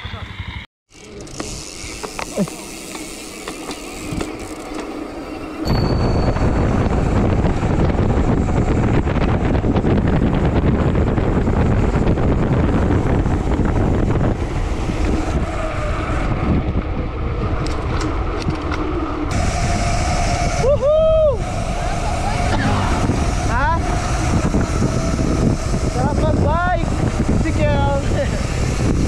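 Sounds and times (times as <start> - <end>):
wind buffeting on microphone: 5.6 - 29.0.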